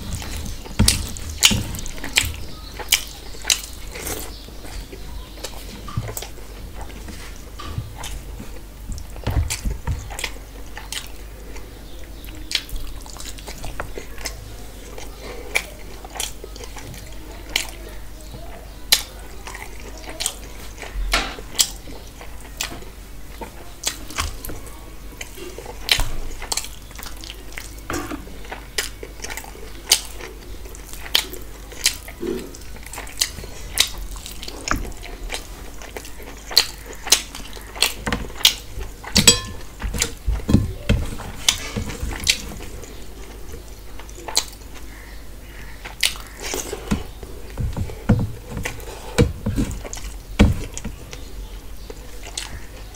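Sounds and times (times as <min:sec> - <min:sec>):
wet chewing: 0:00.0 - 0:52.9.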